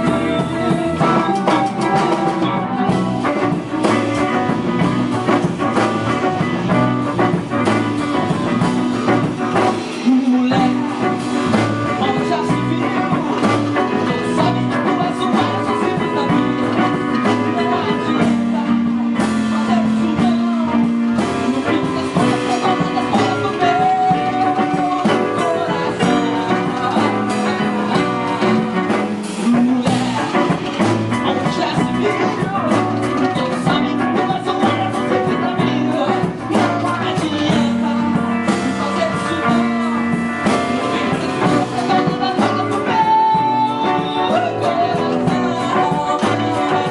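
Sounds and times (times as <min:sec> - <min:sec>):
band playing instrumental: 0:00.0 - 0:46.9.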